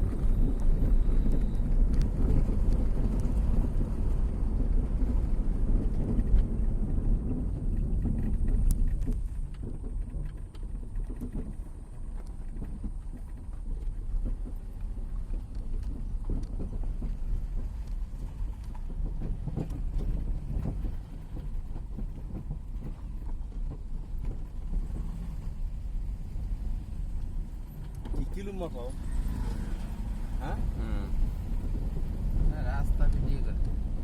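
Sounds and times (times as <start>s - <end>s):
car engine and road noise: 0.0s - 34.0s
wind buffeting microphone: 0.0s - 34.0s.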